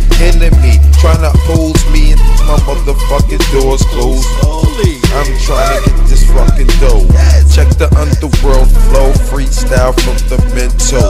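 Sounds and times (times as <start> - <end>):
hip hop beat with heavy bass: 0.0 - 11.0
person rapping: 0.0 - 11.0.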